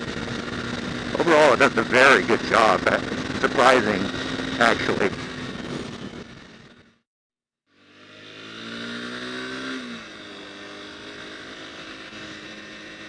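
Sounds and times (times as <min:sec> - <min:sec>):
motorcycle engine pulling under throttle: 0:00.0 - 0:07.0, 0:07.7 - 0:13.0.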